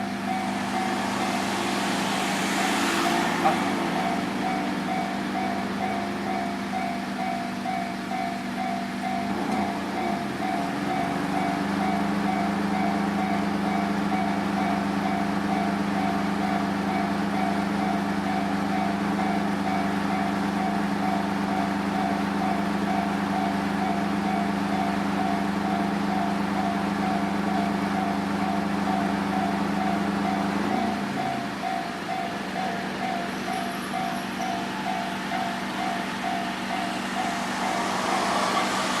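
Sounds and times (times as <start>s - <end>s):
level crossing alarm bell: 0.0s - 39.0s.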